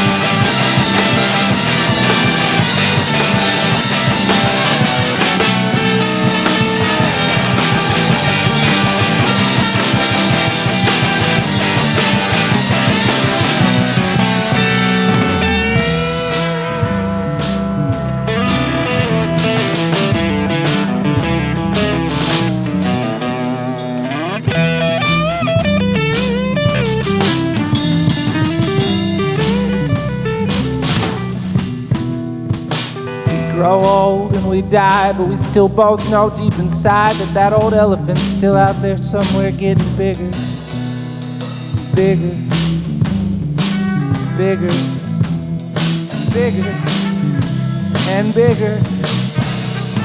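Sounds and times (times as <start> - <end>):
electric guitar lead with bent notes: 0.0 - 35.5, 40.2 - 50.0
bass guitar: 0.0 - 50.0
drums: 0.0 - 50.0
live band playing: 0.0 - 50.0.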